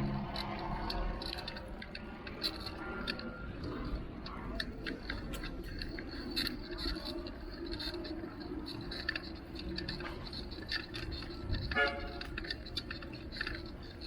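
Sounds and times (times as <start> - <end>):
bicycle clicks and rattles: 0.0 - 14.0
traffic: 0.0 - 14.0
wind rumble: 0.0 - 14.0.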